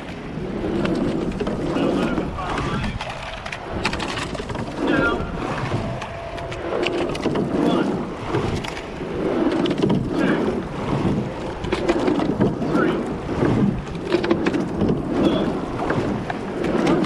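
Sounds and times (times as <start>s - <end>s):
oar blades driving through water: 0.0s - 17.0s
oars clunking in gates: 0.0s - 17.0s
water rushing past hull: 0.0s - 17.0s.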